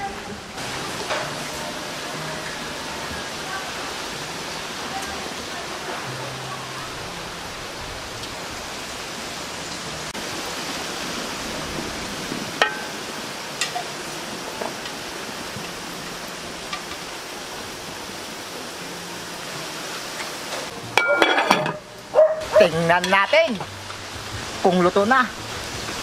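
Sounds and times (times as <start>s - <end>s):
water boiling with rushing hiss: 0.0s - 26.0s.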